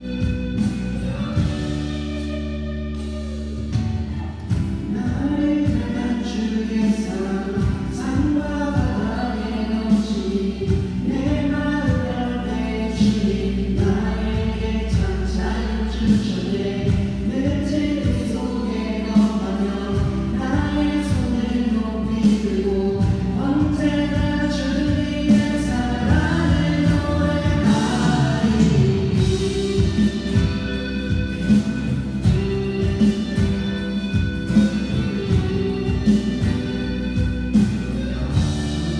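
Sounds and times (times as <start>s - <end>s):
keyboard backing: 0.0s - 38.9s
low bass: 0.0s - 38.9s
voices singing praise song: 4.4s - 36.9s.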